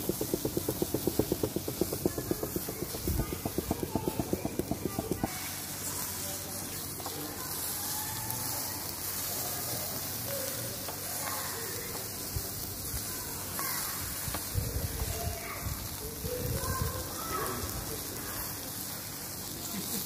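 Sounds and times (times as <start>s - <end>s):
kebabs sizzling over charcoal: 0.0s - 20.0s.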